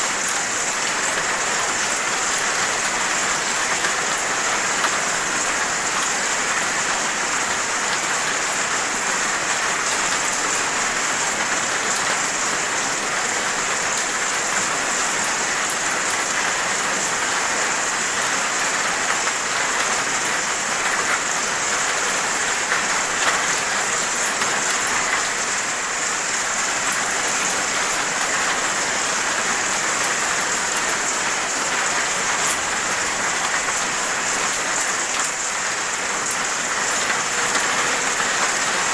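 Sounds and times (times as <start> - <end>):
raindrops pattering on a surface: 0.0 - 38.9
steady rain hiss: 0.0 - 38.9.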